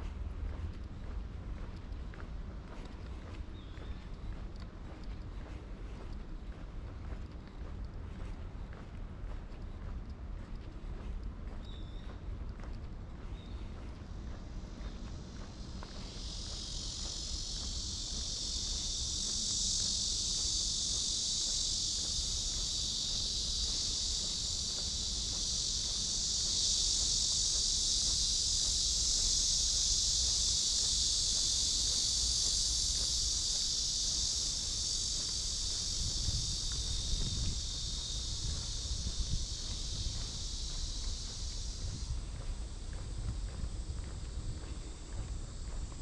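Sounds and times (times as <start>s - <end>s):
cicadas buzzing: 0.0s - 46.0s.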